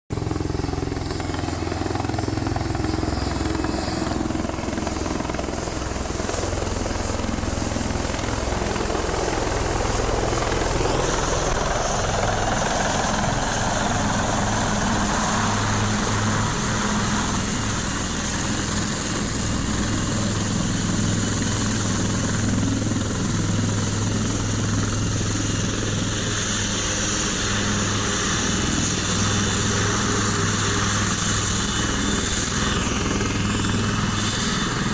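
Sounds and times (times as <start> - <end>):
helicopter rotors beating: 0.1 - 34.9
high turbine whine: 0.1 - 34.9.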